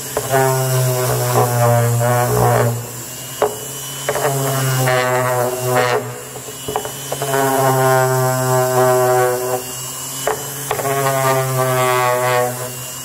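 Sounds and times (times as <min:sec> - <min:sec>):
orbital sander buzzing on wood: 0:00.0 - 0:13.0.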